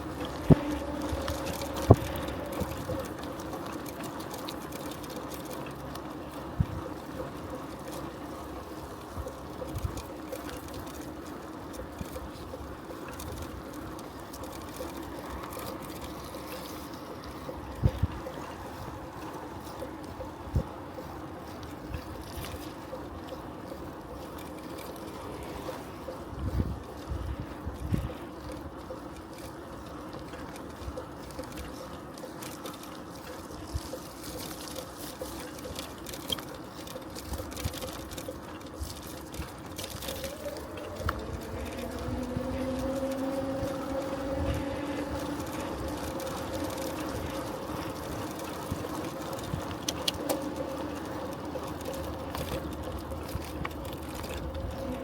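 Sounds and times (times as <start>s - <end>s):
bicycle rolling: 0.0s - 55.0s
faint regular ticking: 0.0s - 55.0s.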